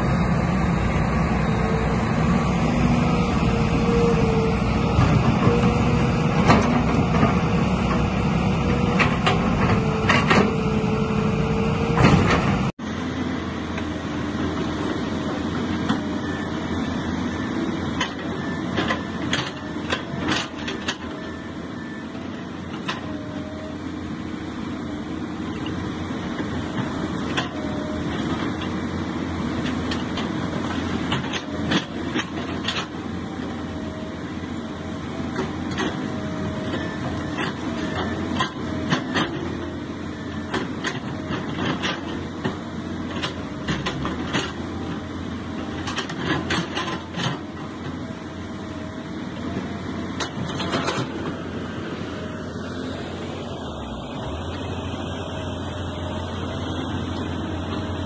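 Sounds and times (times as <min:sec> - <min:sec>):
excavator engine hum and whine: 0:00.0 - 0:58.0.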